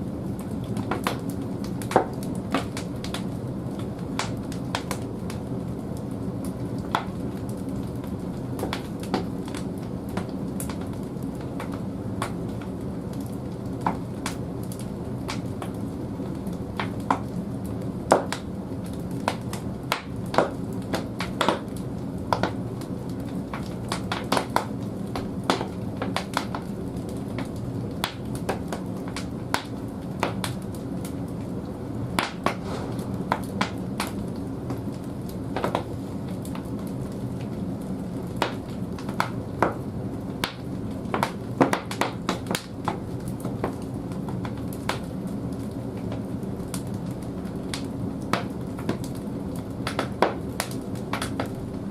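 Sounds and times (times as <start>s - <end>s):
logs crackling and popping: 0.0s - 51.9s
wood fire low rumble: 0.0s - 51.9s.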